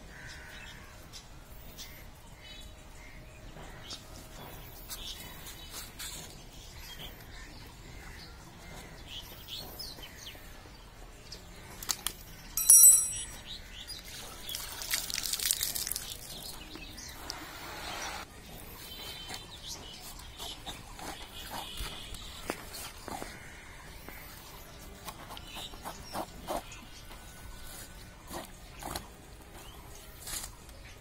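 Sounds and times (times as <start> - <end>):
small birds chirping: 0.3 - 31.0.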